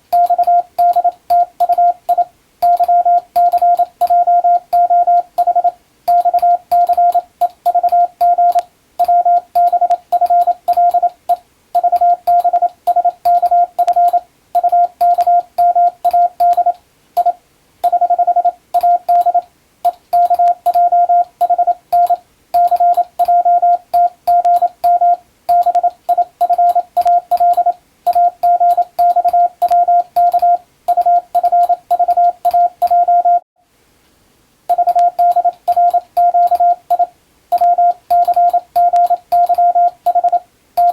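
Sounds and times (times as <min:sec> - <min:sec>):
morse code tone: 0:00.0 - 0:33.4, 0:34.7 - 0:40.9
keying clicks: 0:00.1 - 0:33.1, 0:34.7 - 0:40.9.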